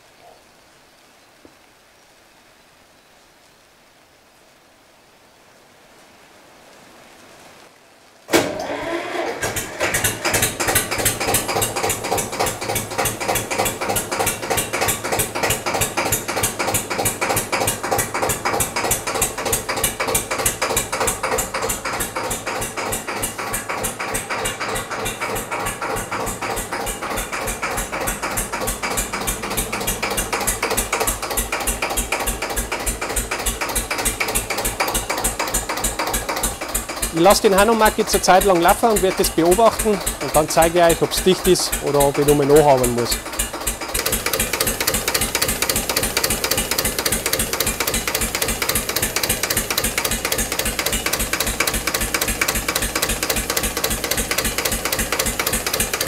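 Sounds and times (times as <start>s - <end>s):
diesel tractor engine idling: 8.4s - 56.0s.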